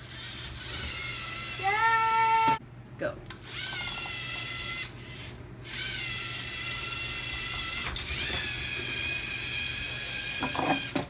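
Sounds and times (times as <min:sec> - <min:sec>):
robot motors whining: 0:00.1 - 0:02.6, 0:03.4 - 0:11.0.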